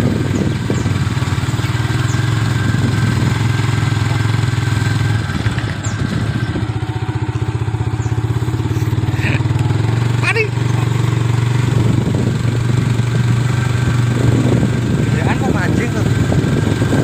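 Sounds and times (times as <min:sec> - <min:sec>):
small motorcycle engine running: 0:00.0 - 0:17.0.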